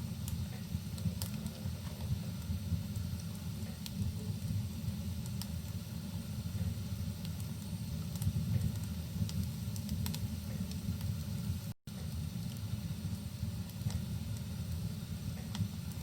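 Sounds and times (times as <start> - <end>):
fireplace fire crackling and popping: 0.0 - 16.0
steady low rumble: 0.0 - 16.0.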